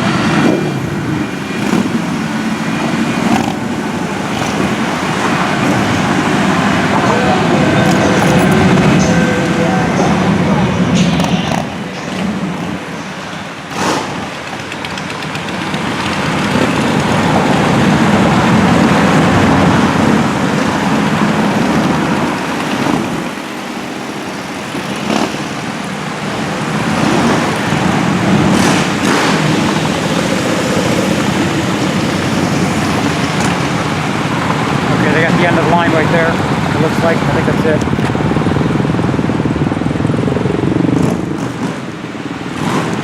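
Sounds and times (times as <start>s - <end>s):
motorcycles passing by: 0.0s - 43.0s.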